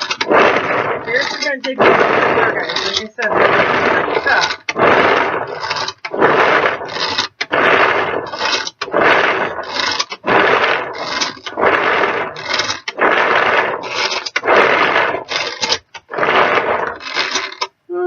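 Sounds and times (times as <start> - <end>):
pull-cord chopper whirring rattle: 0.0 - 17.7.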